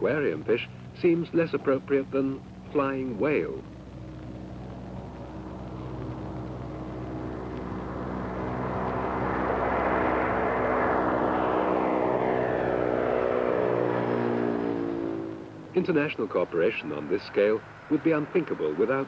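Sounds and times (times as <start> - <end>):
propeller aircraft flying past: 0.0 - 19.0.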